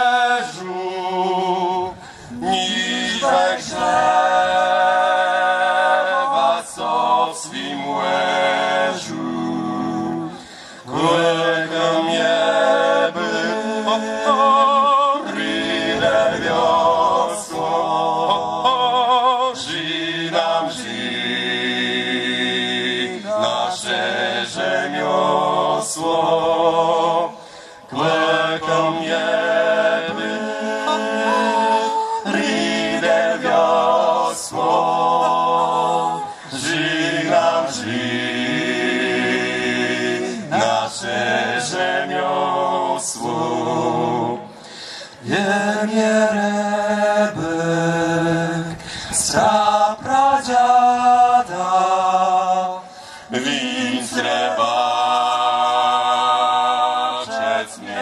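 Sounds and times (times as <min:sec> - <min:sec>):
male vocal quartet singing: 0:00.0 - 0:58.0.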